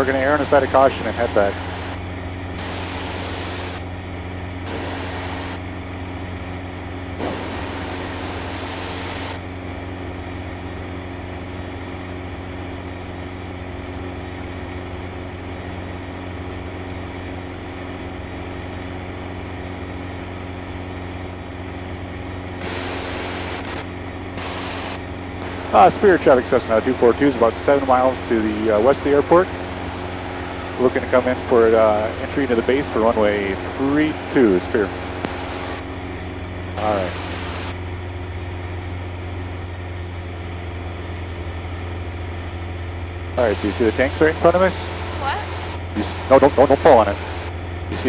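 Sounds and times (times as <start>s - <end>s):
propeller plane engine droning: 0.0s - 48.0s.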